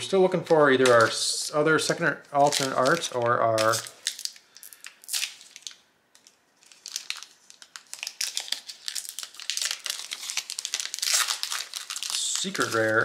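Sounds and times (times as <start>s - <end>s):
foil wrapper crinkling: 2.4s - 13.0s.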